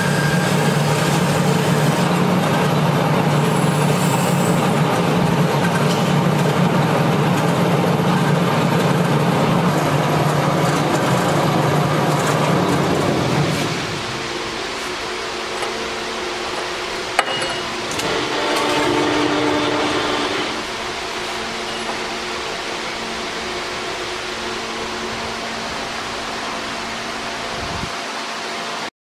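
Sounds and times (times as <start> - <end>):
band saw motor hum: 0.0 - 27.9.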